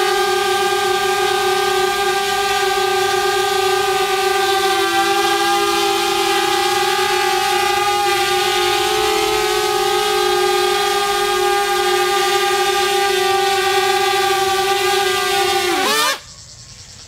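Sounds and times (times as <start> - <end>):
drone propellers whining: 0.0 - 16.2.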